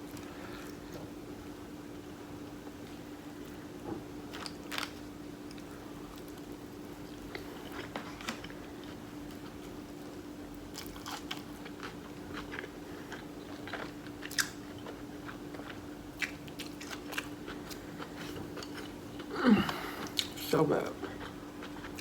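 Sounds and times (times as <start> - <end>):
steady low hum: 0.0 - 22.0
person chewing and crunching food: 4.2 - 22.0.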